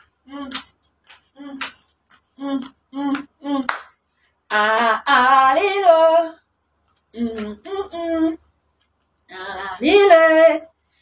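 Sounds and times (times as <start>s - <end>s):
woman singing unaccompanied: 0.0s - 6.5s, 7.1s - 8.5s, 9.2s - 10.8s.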